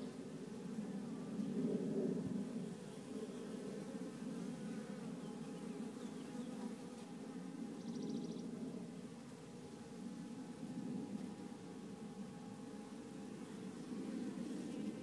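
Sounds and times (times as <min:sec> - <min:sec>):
honeybees buzzing: 0:02.4 - 0:15.0.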